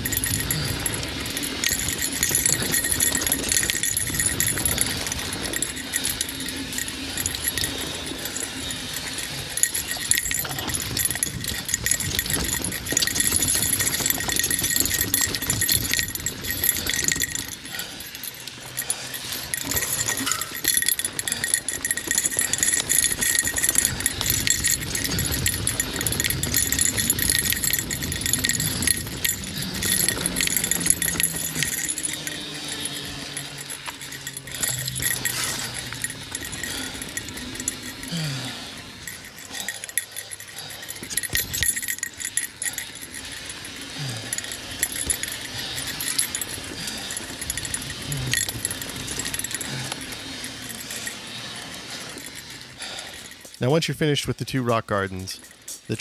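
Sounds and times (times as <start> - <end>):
mountain bike rattling over rocks: 0.0 - 53.6.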